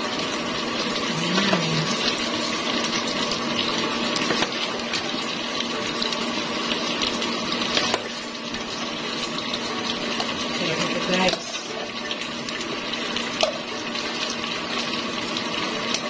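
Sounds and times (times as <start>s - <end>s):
sauce bubbling and sizzling in a pan: 0.0s - 16.0s.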